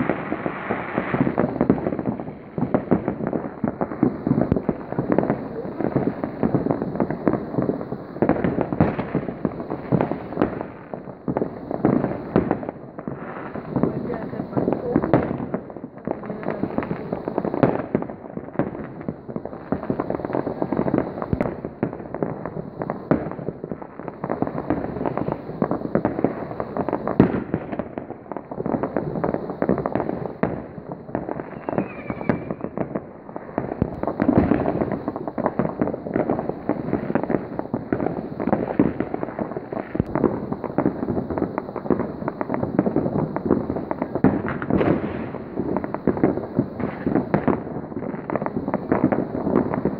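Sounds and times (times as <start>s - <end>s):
fireworks bangs and crackles: 0.0s - 49.9s
loud single firework bangs: 0.0s - 49.9s.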